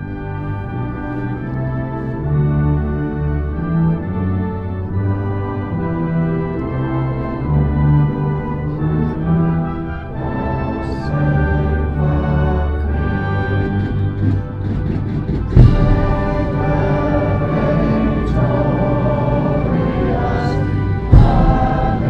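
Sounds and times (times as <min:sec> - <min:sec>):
military band playing sustained chords: 0:00.0 - 0:22.0.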